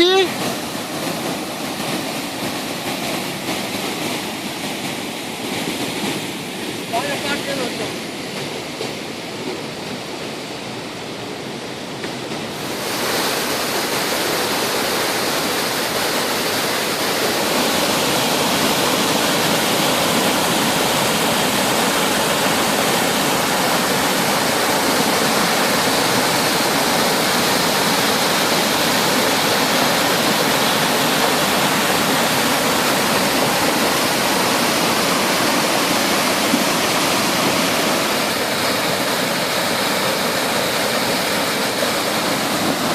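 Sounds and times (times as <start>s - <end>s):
stream rushing: 0.0s - 42.9s.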